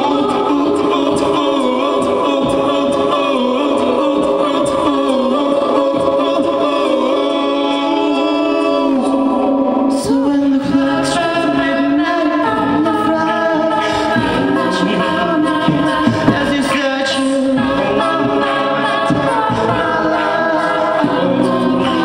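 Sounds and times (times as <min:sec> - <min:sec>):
a cappella group singing: 0:00.0 - 0:22.0.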